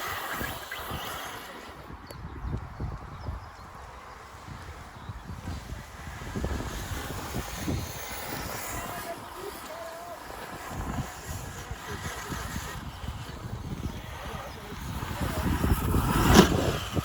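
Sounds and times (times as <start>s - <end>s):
rc car motors and tyres: 0.0s - 17.0s.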